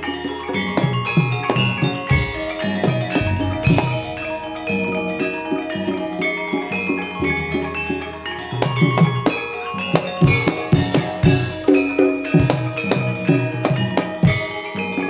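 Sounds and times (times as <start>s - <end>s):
hand drum strokes: 0.0s - 15.0s
ringing metallophone notes: 0.0s - 15.0s.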